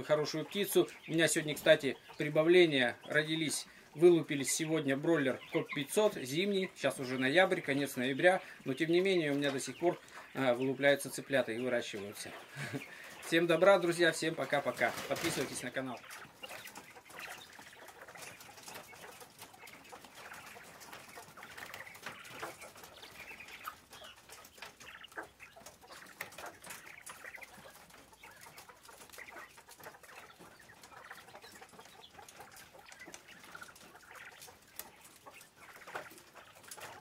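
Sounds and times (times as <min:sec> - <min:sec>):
quail clucking and chirping: 0:00.0 - 0:37.0.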